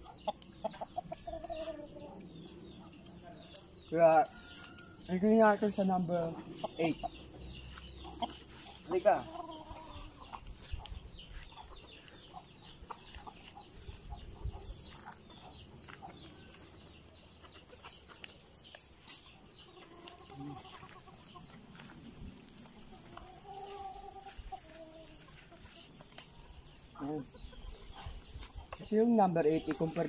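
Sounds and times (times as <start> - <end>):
hens clucking: 0.0 - 2.5, 3.5 - 30.0.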